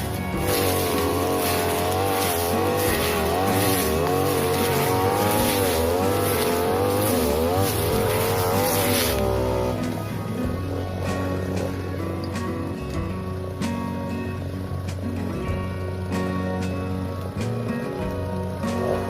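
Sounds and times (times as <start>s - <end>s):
background music: 0.0s - 19.0s
brush cutter engine revving: 0.0s - 19.0s.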